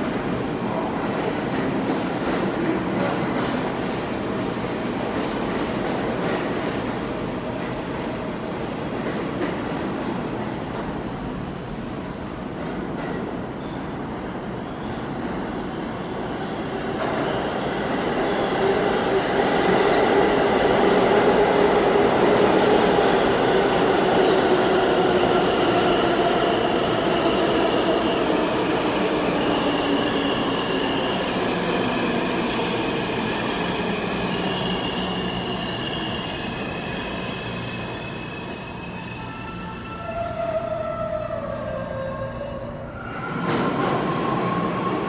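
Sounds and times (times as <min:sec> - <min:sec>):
subway train rumble: 0:00.0 - 0:45.0.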